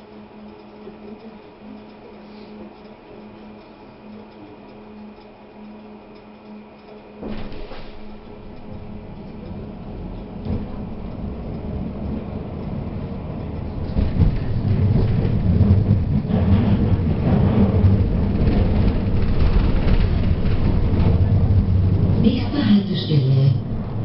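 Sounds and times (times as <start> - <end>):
tram motors and wheels rumbling: 0.0 - 24.0.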